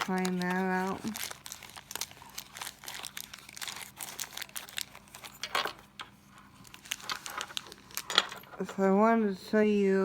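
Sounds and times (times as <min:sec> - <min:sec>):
packaging crinkling: 0:00.0 - 0:08.5.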